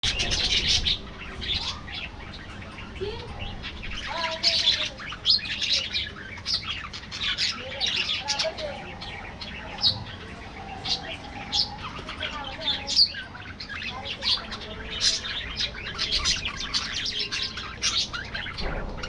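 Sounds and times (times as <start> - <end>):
budgerigars chirping and chattering: 0.0 - 19.0.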